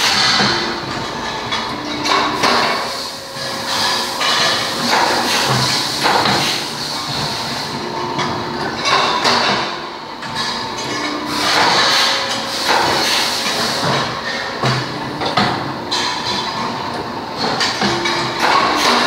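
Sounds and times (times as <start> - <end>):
metallic clanks and knocks: 0.0 - 19.0
steady machine hum: 0.0 - 19.0.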